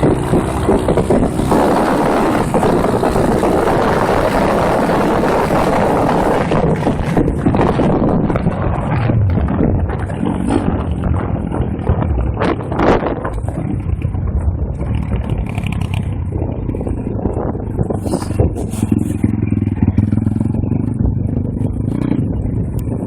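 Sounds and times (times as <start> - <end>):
motorbike engine under throttle: 0.0 - 23.0
wind buffeting microphone: 0.0 - 23.0.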